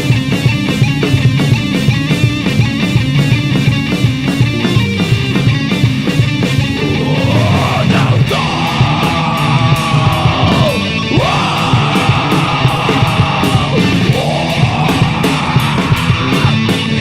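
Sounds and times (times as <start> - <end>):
bass guitar: 0.0 - 17.0
distorted electric guitars: 0.0 - 17.0
drums with cymbal hits: 0.0 - 17.0
swooping guitar notes: 0.0 - 17.0.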